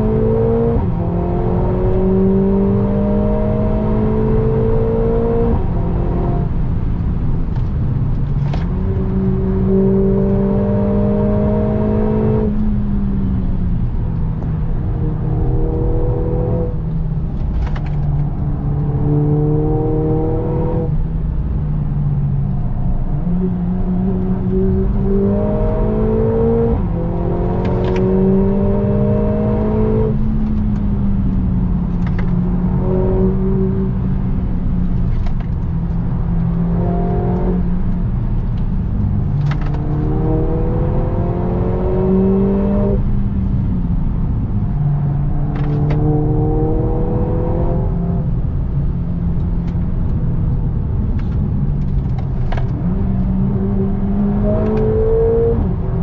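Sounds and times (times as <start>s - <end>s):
car engine revving: 0.0s - 12.9s, 13.5s - 21.0s, 22.8s - 56.0s
road and tyre noise: 0.0s - 56.0s.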